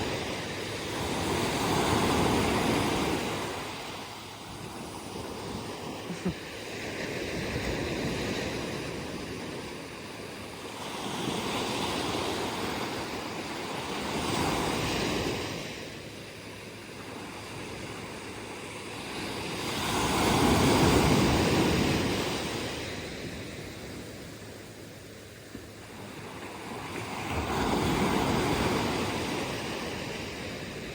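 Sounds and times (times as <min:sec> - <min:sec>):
ocean waves breaking on beach: 0:00.0 - 0:30.9.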